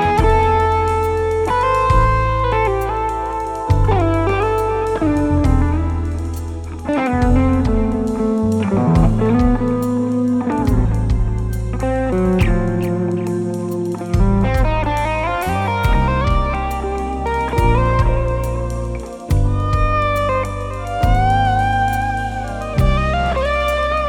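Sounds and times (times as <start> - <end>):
bass guitar: 0.0 - 24.0
drums: 0.0 - 24.0
electric guitar lead with slides: 0.0 - 24.0.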